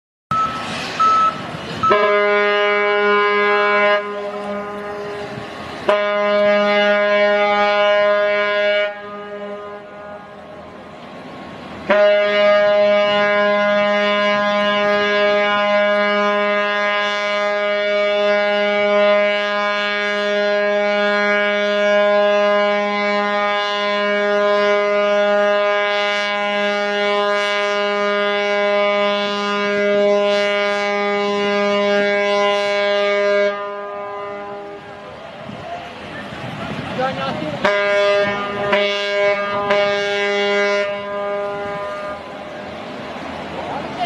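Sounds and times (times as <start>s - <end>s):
ship's horn blast: 0.3s - 10.7s, 11.8s - 44.0s.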